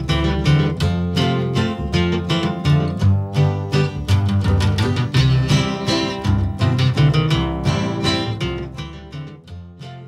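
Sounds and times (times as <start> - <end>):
bass line: 0.0 - 10.0
guitar plucked and strummed: 0.0 - 10.0.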